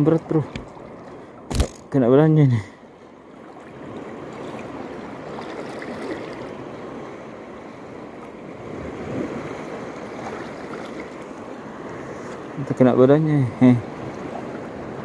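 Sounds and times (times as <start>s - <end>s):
sea waves washing at shore: 0.0s - 15.0s.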